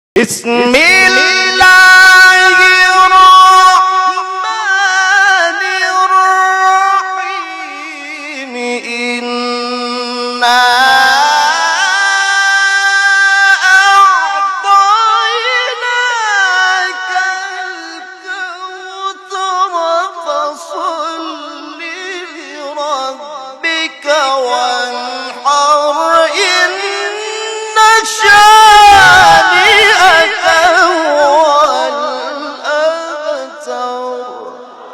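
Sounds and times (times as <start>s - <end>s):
person chanting melodically: 0.2s - 34.9s.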